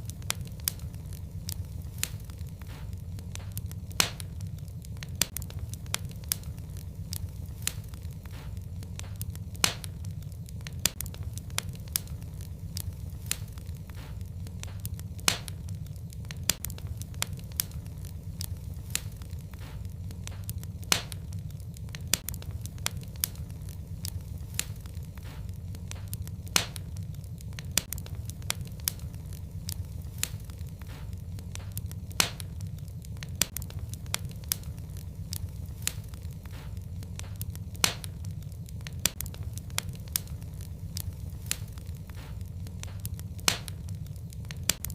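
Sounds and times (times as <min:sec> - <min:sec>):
fire crackling and popping: 0:00.0 - 0:44.9
fire rumbling: 0:00.0 - 0:44.9.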